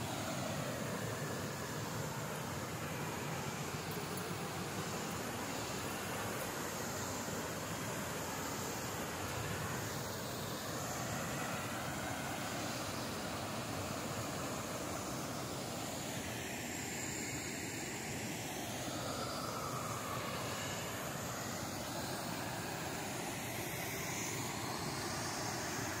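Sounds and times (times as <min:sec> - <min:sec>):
waterfall roaring into pool: 0:00.0 - 0:26.0.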